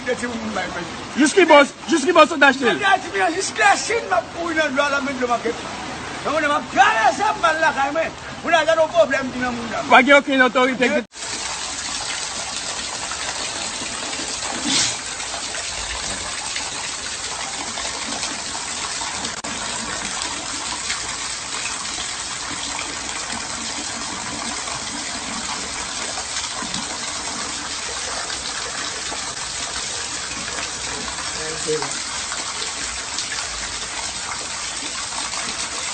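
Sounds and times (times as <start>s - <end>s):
floodwater rushing: 0.0s - 35.9s.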